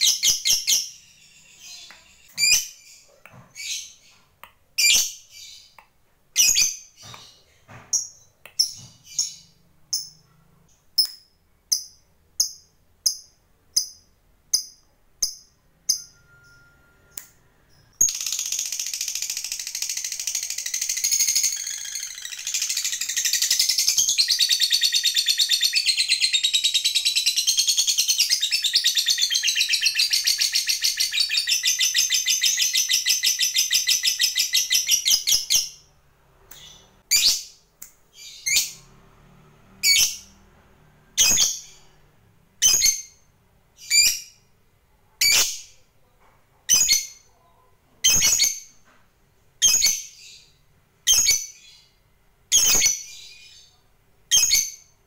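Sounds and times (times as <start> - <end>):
bird chirping: 0.0 - 49.0, 49.6 - 55.0.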